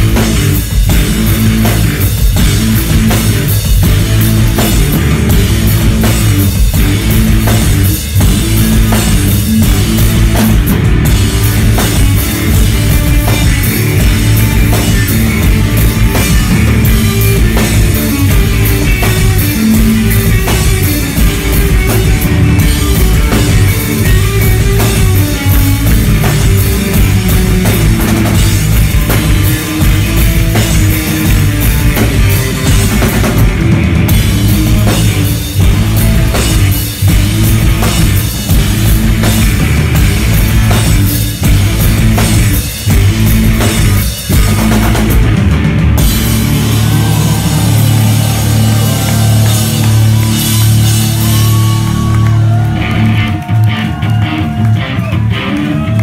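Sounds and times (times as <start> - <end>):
drum kit pounding with cymbals: 0.0 - 56.0
electric bass: 0.0 - 56.0
electric guitar: 0.0 - 56.0.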